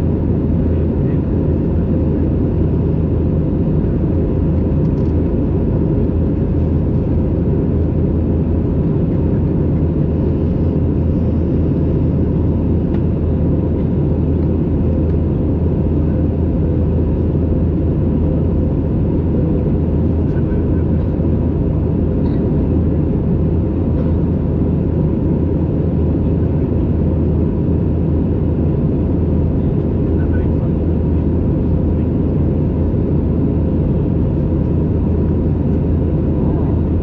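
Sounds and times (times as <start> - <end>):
airplane cabin drone: 0.0 - 37.0.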